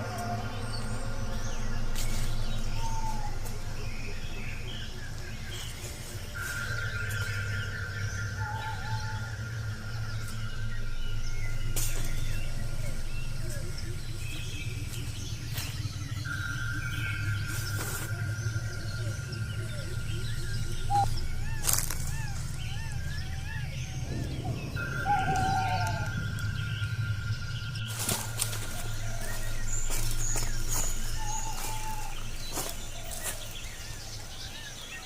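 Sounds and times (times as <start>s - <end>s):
birds calling: 0.0s - 35.0s
steady low rumble: 0.0s - 35.0s.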